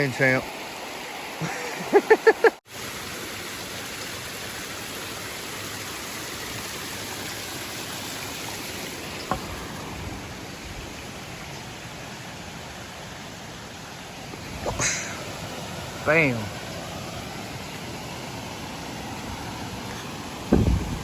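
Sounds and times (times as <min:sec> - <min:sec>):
flowing stream: 0:00.0 - 0:21.0.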